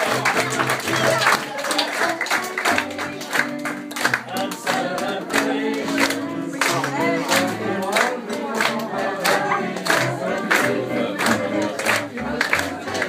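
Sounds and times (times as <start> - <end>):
live instrumental music: 0.0 - 13.0
people singing together: 0.0 - 13.0.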